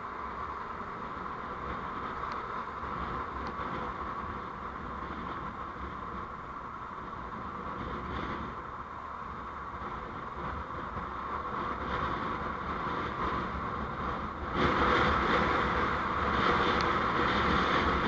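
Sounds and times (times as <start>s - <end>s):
road and engine noise: 0.0s - 18.0s.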